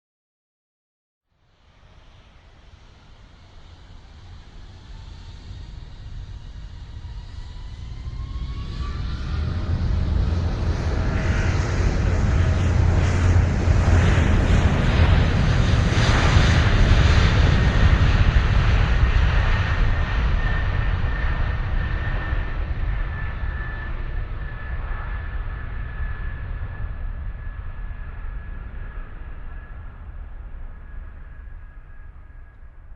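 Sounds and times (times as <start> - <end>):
airplane flying past: 1.4 - 32.9.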